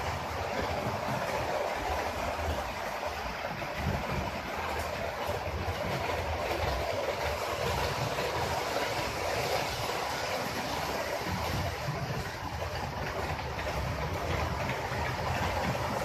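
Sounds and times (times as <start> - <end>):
model train rolling rumble: 0.0 - 16.0.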